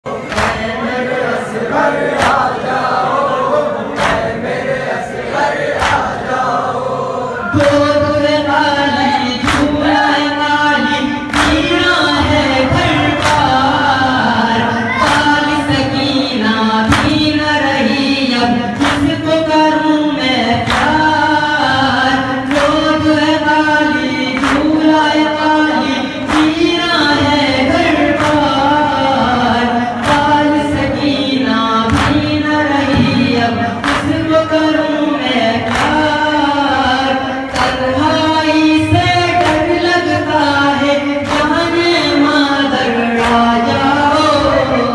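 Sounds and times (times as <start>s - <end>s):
men chanting in unison: 0.0s - 44.9s
lead reciter: 0.1s - 44.9s.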